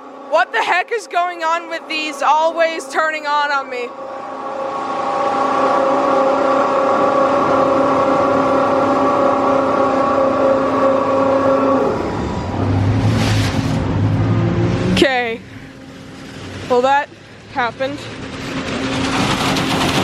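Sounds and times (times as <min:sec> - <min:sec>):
car wash motor whine: 0:00.0 - 0:20.0.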